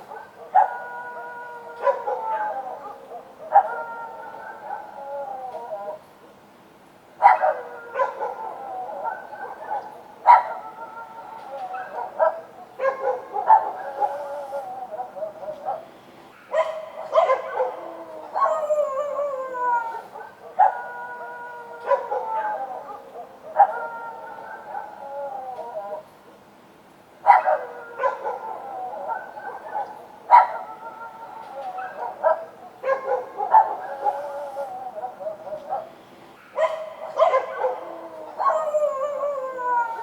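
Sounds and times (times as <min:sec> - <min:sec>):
dogs barking and howling: 0:00.0 - 0:06.2, 0:07.2 - 0:26.2, 0:27.2 - 0:40.0.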